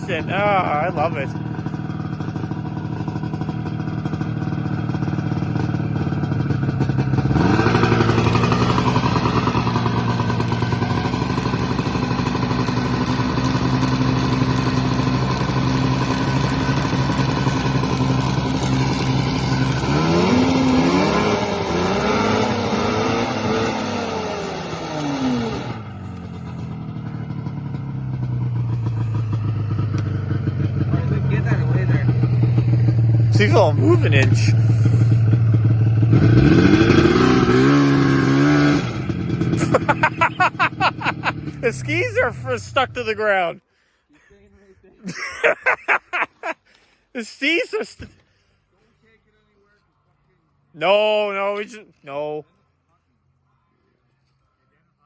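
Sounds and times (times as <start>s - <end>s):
snowmobile engine revving: 0.0s - 43.6s, 45.1s - 48.1s, 50.8s - 52.4s.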